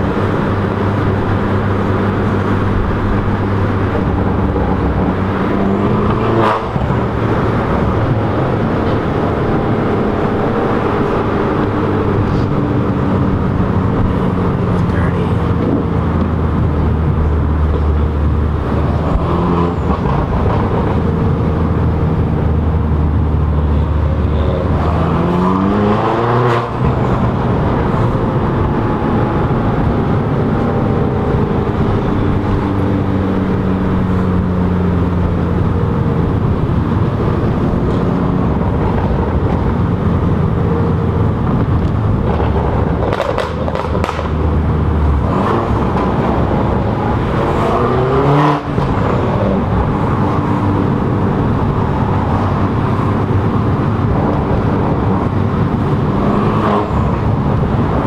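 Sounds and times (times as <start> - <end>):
car engine revving: 0.0 - 58.0
road noise inside car: 0.0 - 58.0.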